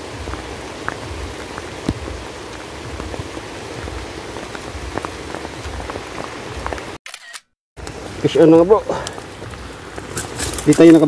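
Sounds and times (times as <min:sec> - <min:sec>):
rain falling on water: 0:00.0 - 0:07.0, 0:07.8 - 0:11.0.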